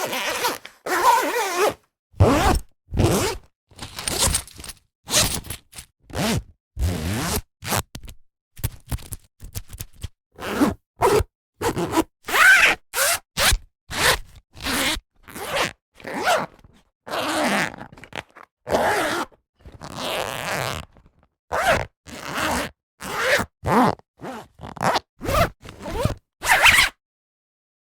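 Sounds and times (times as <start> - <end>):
zipper opening and closing: 0.0 - 7.8, 10.4 - 27.0.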